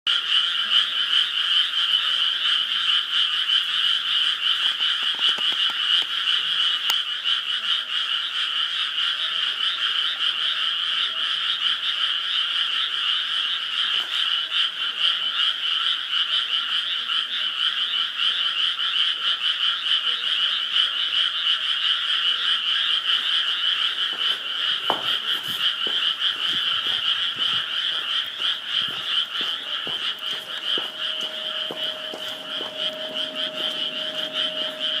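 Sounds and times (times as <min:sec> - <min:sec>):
frogs croaking in chorus: 0:00.1 - 0:35.0.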